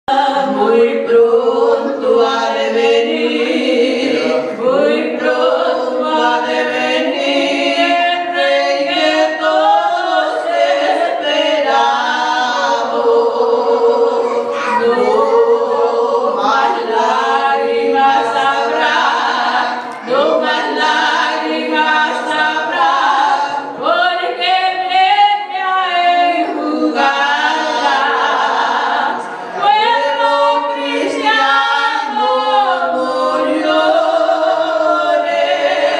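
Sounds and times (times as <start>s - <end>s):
women singing a cappella duet: 0.1s - 35.9s.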